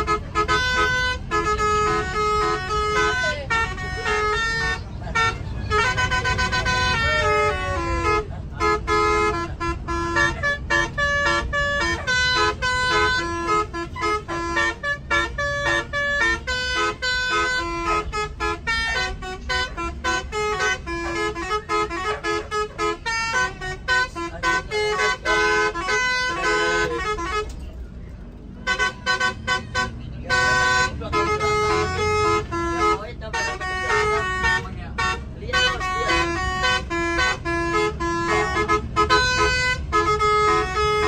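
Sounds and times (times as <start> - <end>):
musical air horn tune: 0.0 - 27.7, 28.6 - 41.0
bus engine rumble: 0.0 - 41.0.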